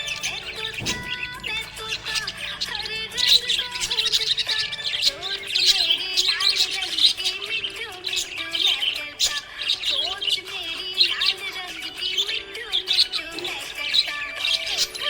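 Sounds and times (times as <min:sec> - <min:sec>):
budgerigars chirping and warbling: 0:00.0 - 0:15.0.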